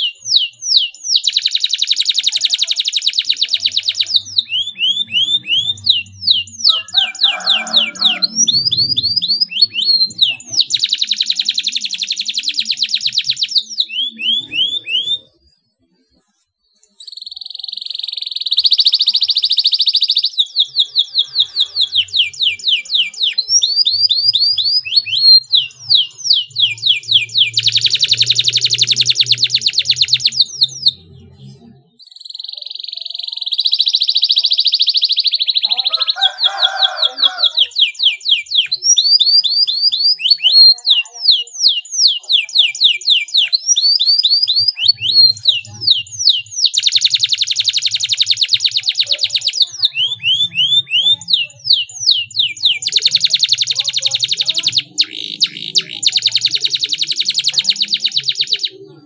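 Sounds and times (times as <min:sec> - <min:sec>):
canary singing trills and chirps: 0:00.0 - 0:59.0.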